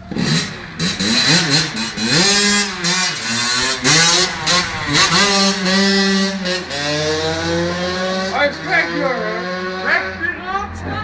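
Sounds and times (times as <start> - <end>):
dirt bike engine revving: 0.0 - 10.5.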